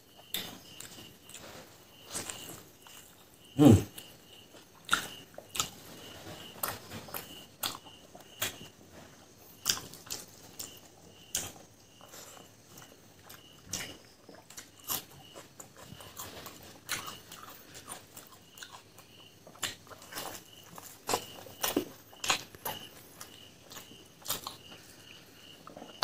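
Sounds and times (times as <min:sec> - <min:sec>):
person chewing with wet smacks: 0:02.1 - 0:26.0.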